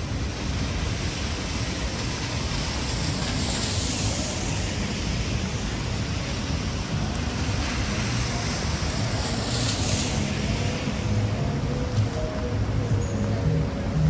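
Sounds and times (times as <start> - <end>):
rain hissing: 0.0 - 14.0.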